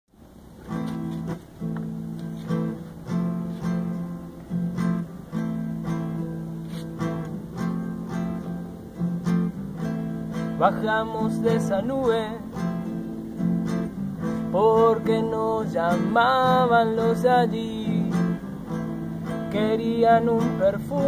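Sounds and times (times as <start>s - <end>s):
acoustic guitar strumming chords: 0.4s - 21.0s.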